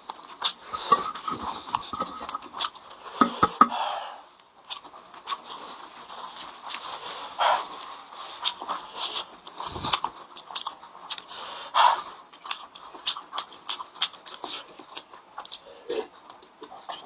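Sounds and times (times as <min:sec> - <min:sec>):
chewing and mouth smacks: 0:00.0 - 0:03.8, 0:04.4 - 0:17.0.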